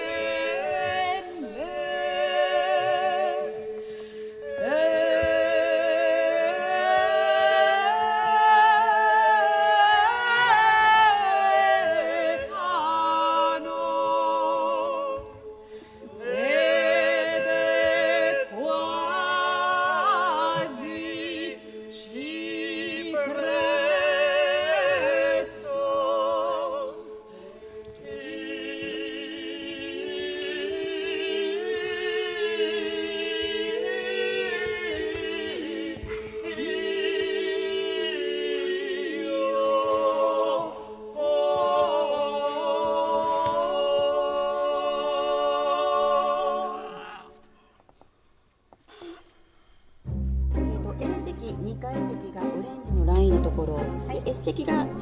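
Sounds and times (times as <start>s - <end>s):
singing with vibrato: 0.0s - 47.9s.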